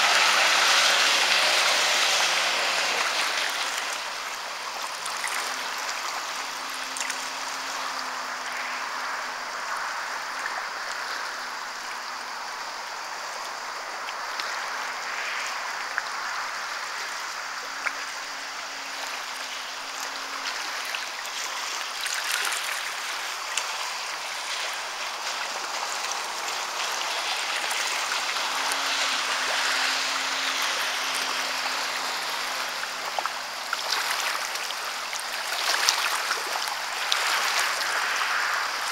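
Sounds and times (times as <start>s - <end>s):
distant jet ski drone: 0.0s - 38.9s
small waves lapping: 0.0s - 38.9s.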